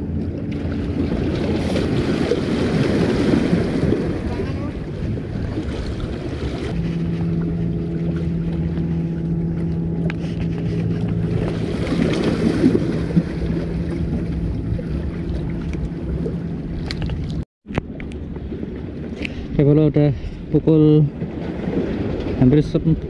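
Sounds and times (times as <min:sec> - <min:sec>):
low motor hum: 0:00.0 - 0:23.0
water lapping at shore: 0:00.0 - 0:23.0
wind on microphone: 0:00.0 - 0:23.0.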